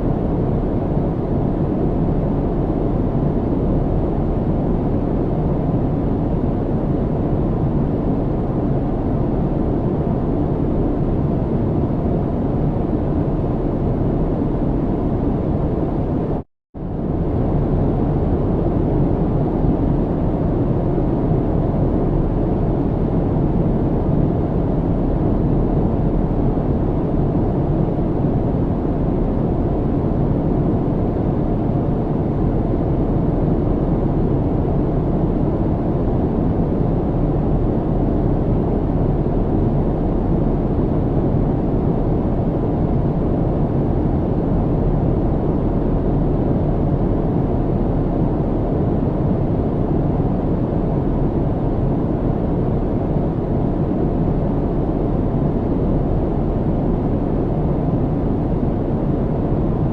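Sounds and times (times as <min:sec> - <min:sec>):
airplane cabin rumble and hiss: 0:00.0 - 0:59.9.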